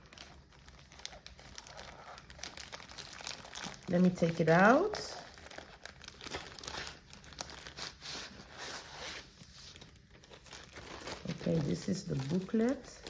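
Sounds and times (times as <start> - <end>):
packaging bag crinkling: 0.0 - 13.0.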